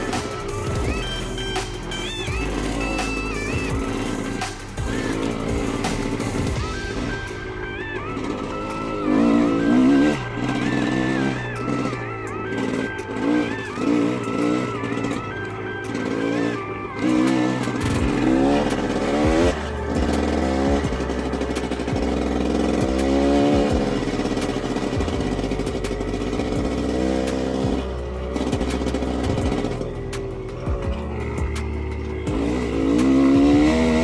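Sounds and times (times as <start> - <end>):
background music: 0.0 - 34.0
dirt bike engine revving: 0.0 - 34.0.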